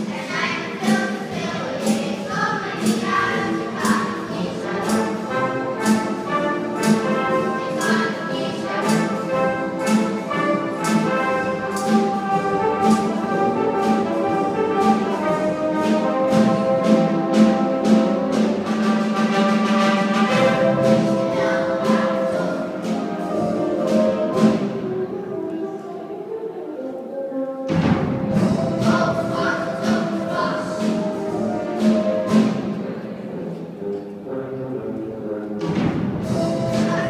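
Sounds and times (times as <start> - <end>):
wind band playing: 0.0 - 37.0.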